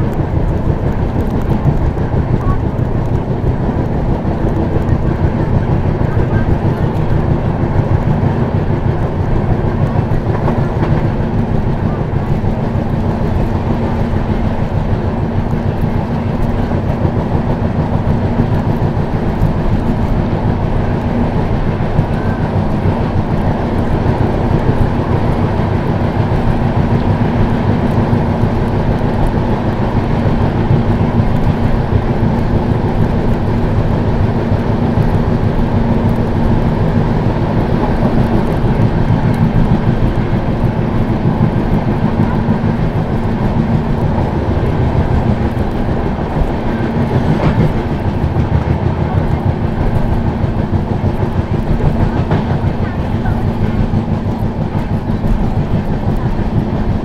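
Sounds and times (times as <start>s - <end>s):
train coach rumbling and rattling: 0.0s - 57.0s.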